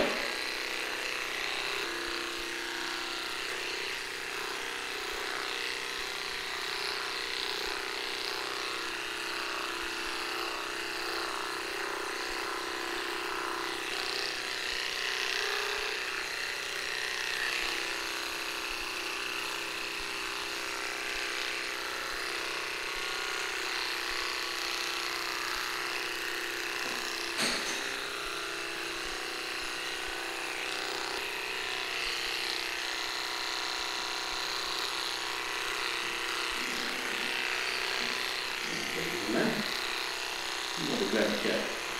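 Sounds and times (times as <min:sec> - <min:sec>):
electric dog clippers buzzing: 0:00.0 - 0:41.9.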